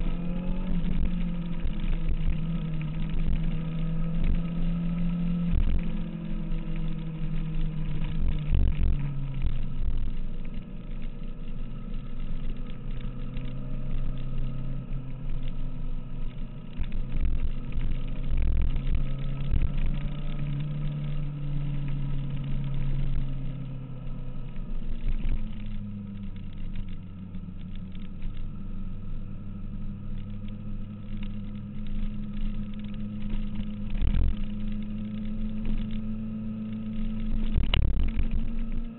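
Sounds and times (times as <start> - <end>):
motorcycle engine running: 0.0 - 38.9
wind rumble: 0.0 - 38.9.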